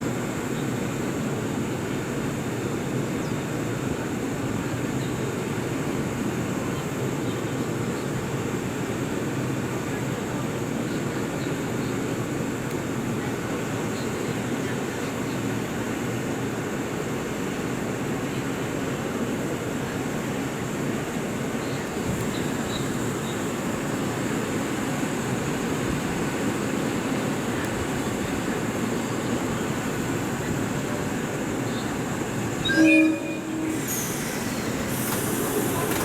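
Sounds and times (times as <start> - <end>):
electric train rumble and hiss: 0.1 - 36.0.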